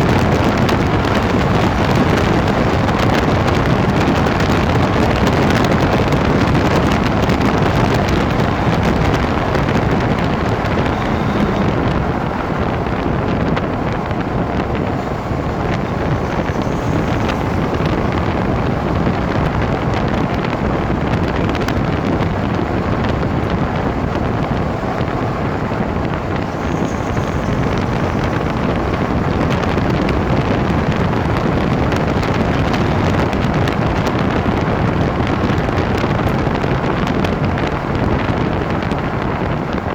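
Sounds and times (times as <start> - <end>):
road and drivetrain rumble: 0.0 - 39.9.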